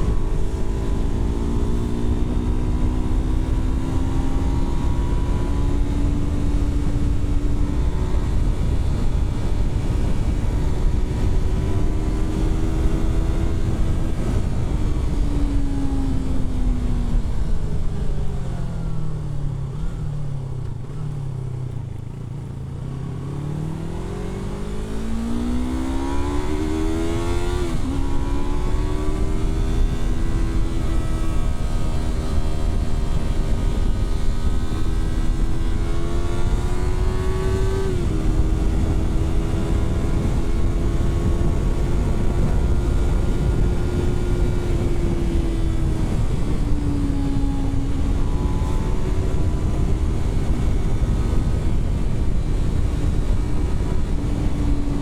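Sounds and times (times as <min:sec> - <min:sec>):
low wind rumble: 0:00.0 - 0:55.0
motorcycle engine accelerating: 0:00.0 - 0:55.0.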